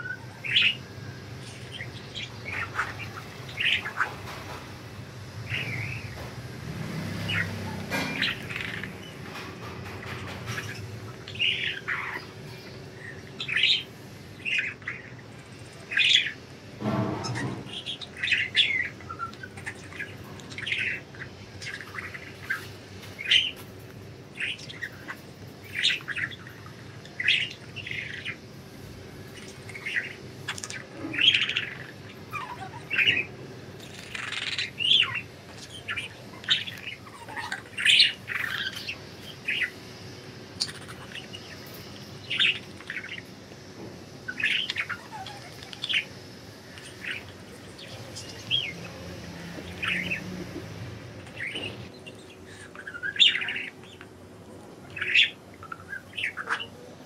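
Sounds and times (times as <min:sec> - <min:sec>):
budgerigars chirping: 0:00.0 - 0:04.7, 0:05.4 - 0:06.3, 0:07.0 - 0:43.5, 0:44.2 - 0:54.1, 0:54.7 - 0:56.9.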